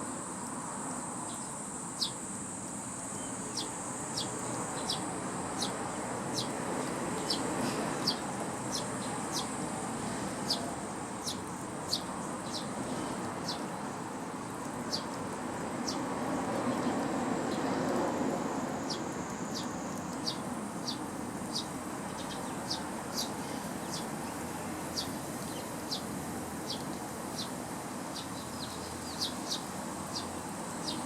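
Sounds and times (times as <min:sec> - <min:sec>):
sparrows chirping: 0:01.3 - 0:02.2, 0:03.0 - 0:17.8, 0:18.8 - 0:31.0.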